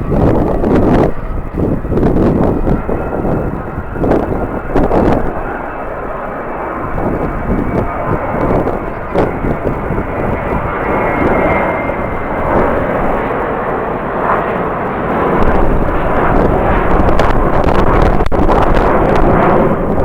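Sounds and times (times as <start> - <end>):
jet engines running: 0.0 - 20.0
wind buffeting microphone: 0.0 - 20.0.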